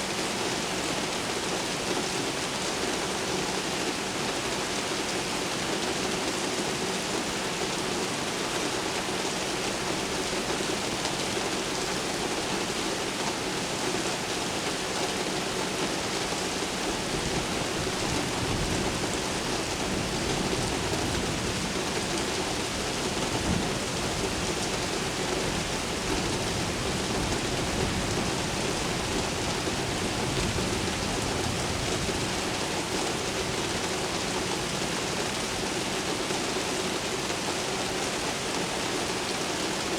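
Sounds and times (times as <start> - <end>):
rain hissing on city surfaces: 0.0 - 39.9.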